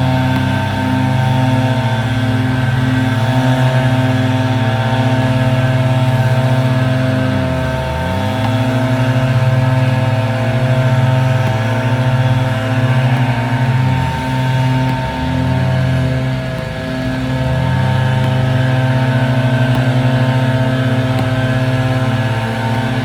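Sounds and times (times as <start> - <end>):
sustained synthesizer chords: 0.0 - 23.0.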